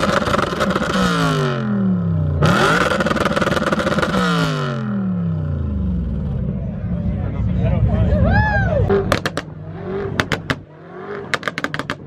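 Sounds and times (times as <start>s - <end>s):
sports car engine revving: 0.0s - 6.8s, 8.8s - 12.0s.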